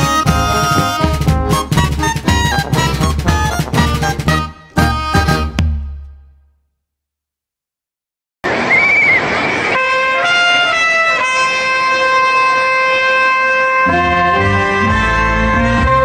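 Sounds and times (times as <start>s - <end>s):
wind instruments holding notes: 0.0s - 5.8s, 8.5s - 16.0s.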